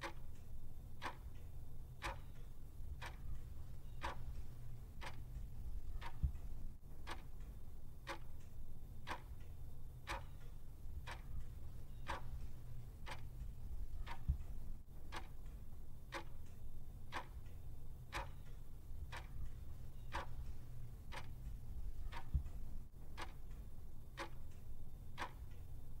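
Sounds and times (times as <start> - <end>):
clock ticking: 0.0 - 25.8.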